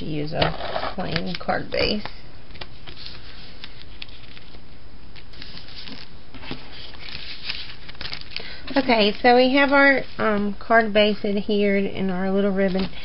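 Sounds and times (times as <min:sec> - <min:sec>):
paper rustling: 0:00.4 - 0:11.2, 0:12.5 - 0:13.0.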